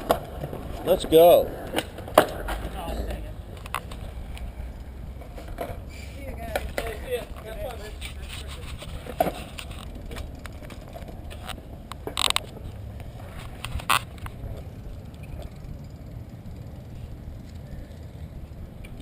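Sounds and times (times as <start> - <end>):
bicycle clicks and rattles: 0.0 - 19.0
bicycle tyres rumbling: 0.0 - 19.0.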